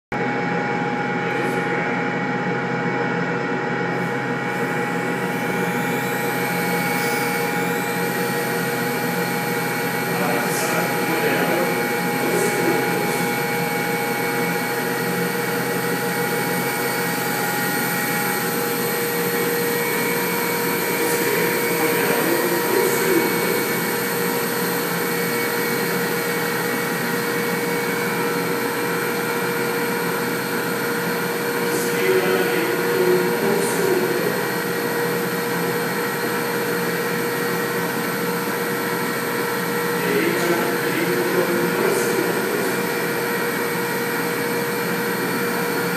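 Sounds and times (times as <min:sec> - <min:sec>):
helicopter noise through loudspeakers: 0:00.2 - 0:45.9
quadcopter rotors whirring: 0:04.0 - 0:45.9.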